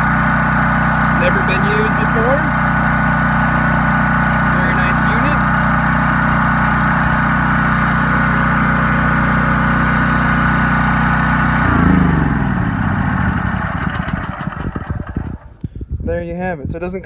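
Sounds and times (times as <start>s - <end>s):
generator engine running: 0.0s - 15.7s.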